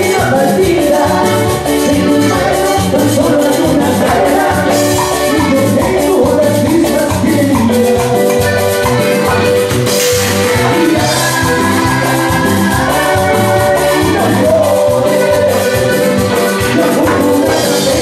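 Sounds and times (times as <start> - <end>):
latin dance band playing: 0.0 - 18.0.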